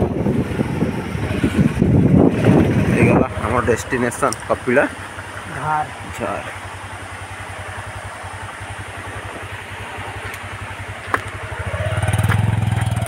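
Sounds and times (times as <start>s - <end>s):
vehicle engine idling and revving: 0.0s - 13.0s.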